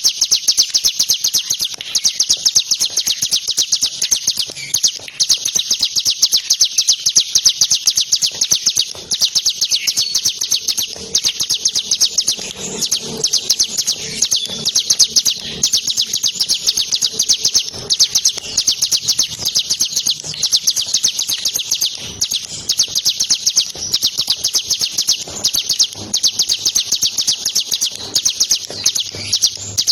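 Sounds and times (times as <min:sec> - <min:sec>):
bird singing rapid chirps: 0:00.0 - 0:29.9.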